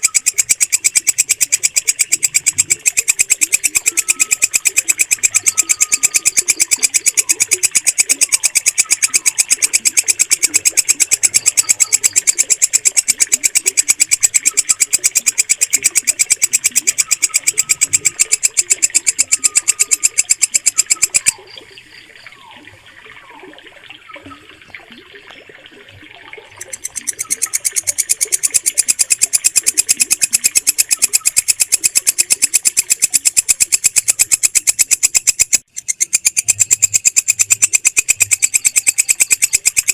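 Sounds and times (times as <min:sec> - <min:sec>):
katydid high-pitched pulsing trill: 0:00.0 - 0:22.5, 0:26.6 - 0:39.9
faint insect chirping: 0:00.0 - 0:23.5, 0:26.5 - 0:39.9.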